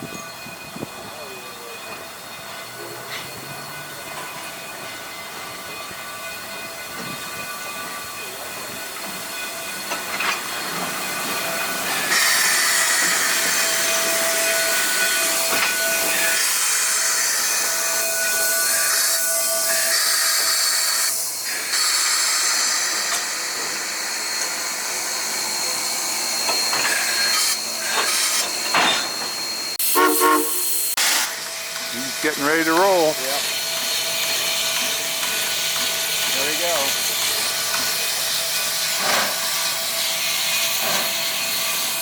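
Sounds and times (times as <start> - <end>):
steam locomotive hissing: 0.0 - 42.0.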